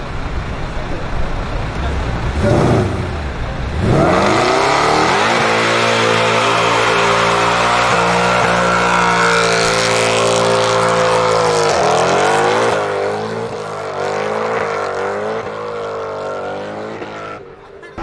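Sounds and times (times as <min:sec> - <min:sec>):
sports car engine revving: 0:01.4 - 0:17.6.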